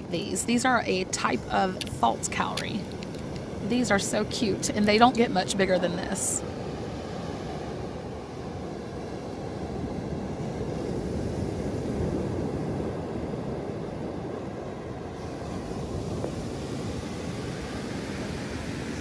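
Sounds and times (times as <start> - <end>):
ocean surf: 0.0 - 19.0
wind on microphone: 0.0 - 19.0.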